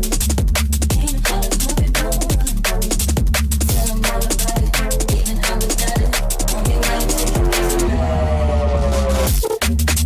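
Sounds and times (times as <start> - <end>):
drum and bass music: 0.0 - 10.0.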